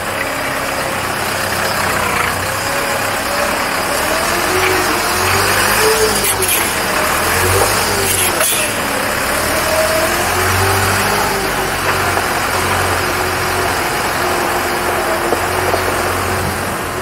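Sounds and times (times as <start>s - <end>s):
diesel truck engine humming: 0.0s - 17.0s
tires on gravel: 0.0s - 17.0s.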